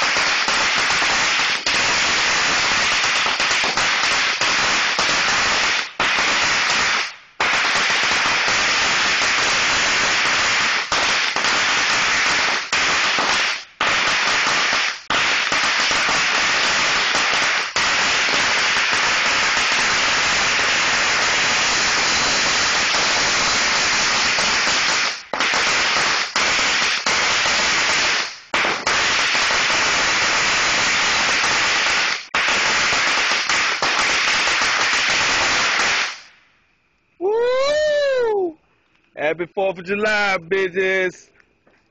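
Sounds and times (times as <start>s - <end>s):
firecrackers crackling: 0.0s - 36.6s, 39.2s - 41.2s.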